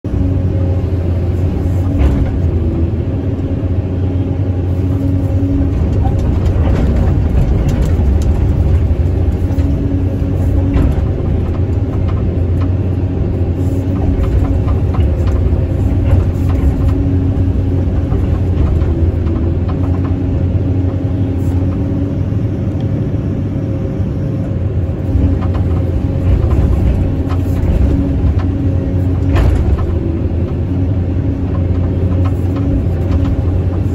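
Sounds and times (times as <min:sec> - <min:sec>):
excavator diesel engine: 0:00.0 - 0:33.9.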